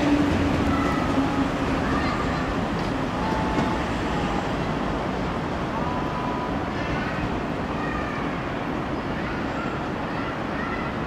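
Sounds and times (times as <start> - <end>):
rail and road traffic rumble: 0.0 - 11.0.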